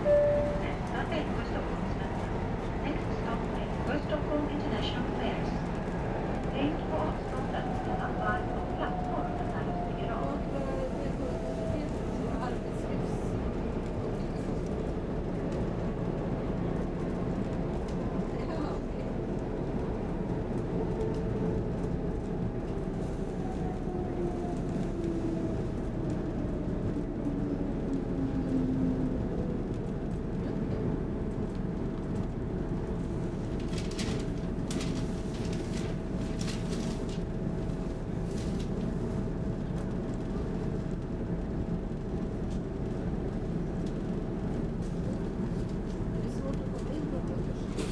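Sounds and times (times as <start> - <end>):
rumble of train wheels: 0.0 - 47.9.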